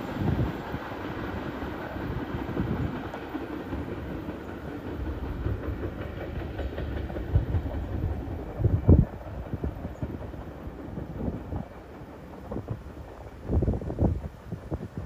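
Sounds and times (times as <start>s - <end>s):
train cars rumbling: 0.0s - 15.0s.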